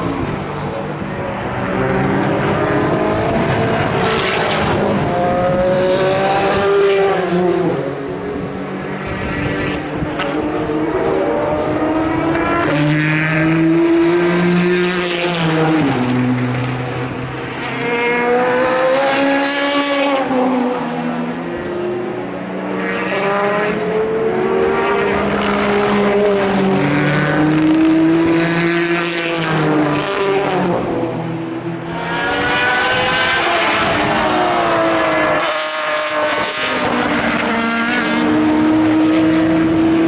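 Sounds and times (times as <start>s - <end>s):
race cars passing at speed: 0.0s - 40.0s.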